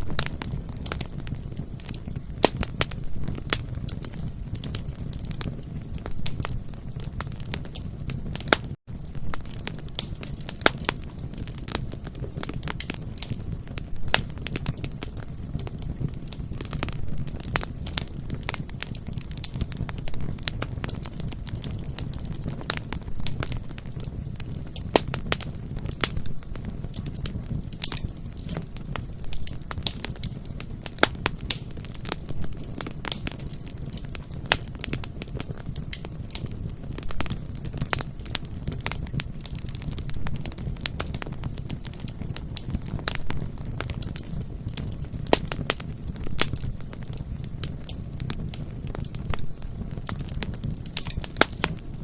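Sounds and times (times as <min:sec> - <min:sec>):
bonfire crackling: 0:00.0 - 0:52.0
fire popping and snapping: 0:00.0 - 0:52.0.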